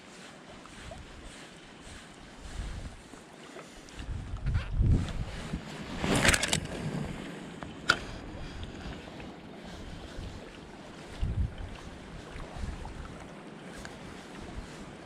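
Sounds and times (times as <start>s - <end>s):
wind buffeting microphone: 0.7s - 3.1s, 3.9s - 15.0s.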